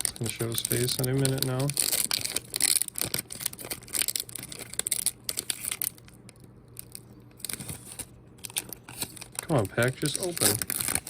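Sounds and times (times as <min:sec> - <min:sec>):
plastic wrapper crinkling and tearing: 0:00.0 - 0:11.0.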